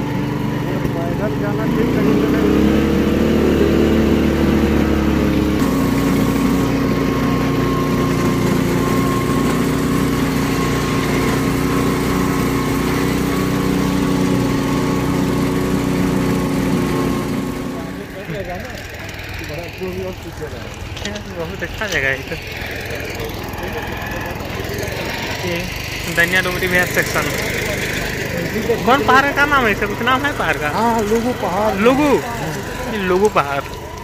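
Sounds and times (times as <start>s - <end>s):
train engine drone: 0.0s - 34.0s.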